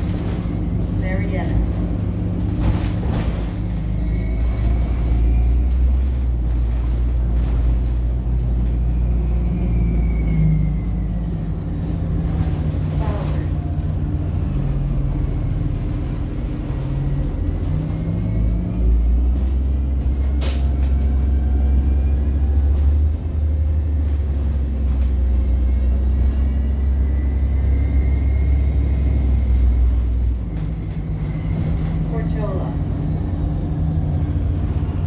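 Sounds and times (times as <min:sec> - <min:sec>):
bus engine hum: 0:00.0 - 0:35.0.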